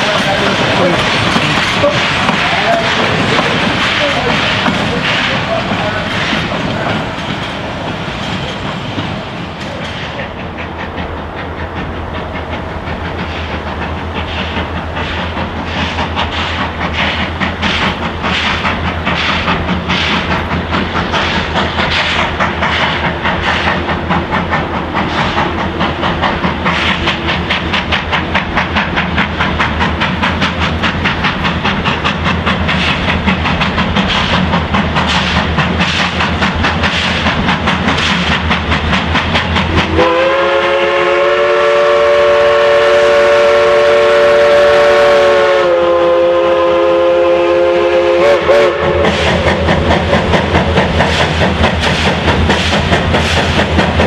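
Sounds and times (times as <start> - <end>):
steam locomotive exhaust beating: 0.0 - 54.0.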